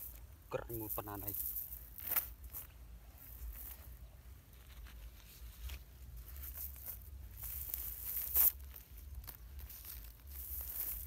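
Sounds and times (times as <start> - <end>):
net rustling on dry ground: 0.0 - 11.0.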